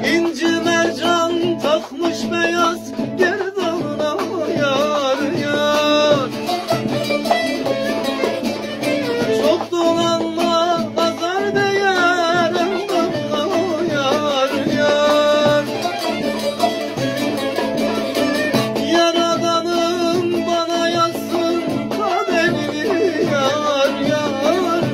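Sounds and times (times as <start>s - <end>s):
man singing: 0.0s - 24.9s
plucked lute: 0.0s - 24.9s.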